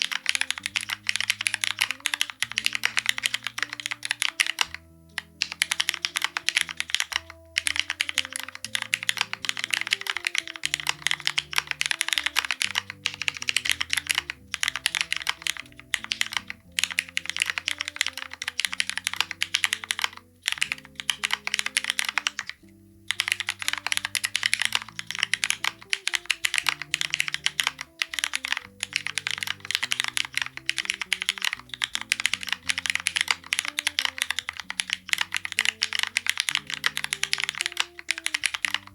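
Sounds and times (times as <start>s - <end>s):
background music with low notes: 0.0s - 38.9s
fast typing on mechanical keyboard: 0.0s - 38.9s.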